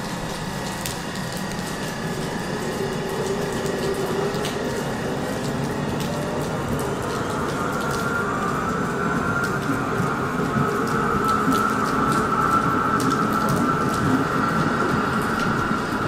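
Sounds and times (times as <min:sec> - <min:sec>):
electric train motor whine: 0:00.0 - 0:16.0
rain falling: 0:00.0 - 0:16.0.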